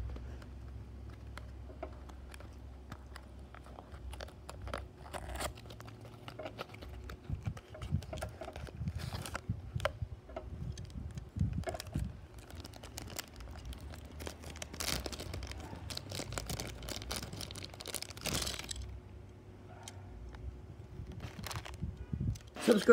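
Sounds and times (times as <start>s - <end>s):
plastic wrapping crinkling: 1.0s - 9.9s, 10.6s - 19.0s, 21.0s - 22.8s.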